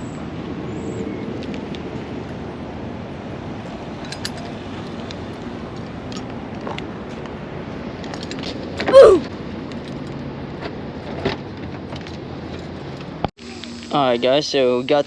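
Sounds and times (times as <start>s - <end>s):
car engine and road noise: 0.0s - 14.7s.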